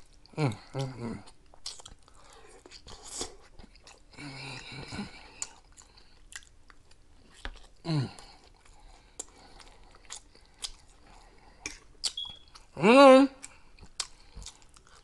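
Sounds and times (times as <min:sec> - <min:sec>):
person chewing food: 0:00.0 - 0:12.8, 0:13.4 - 0:15.0.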